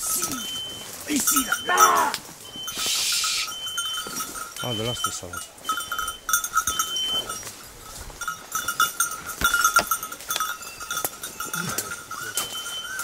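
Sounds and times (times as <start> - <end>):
dog collar bell jangling: 0.0 - 2.8, 3.4 - 13.0.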